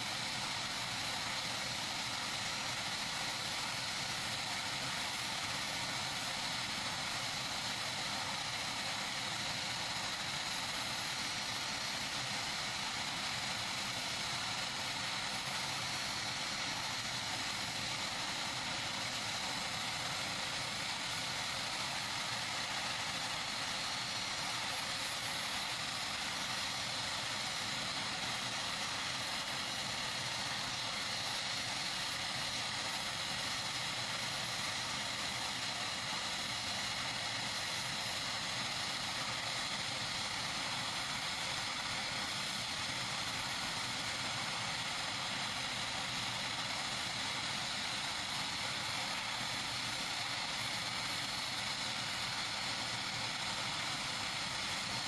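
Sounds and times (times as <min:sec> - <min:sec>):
helicopter turbine idling: 0:00.0 - 0:55.0.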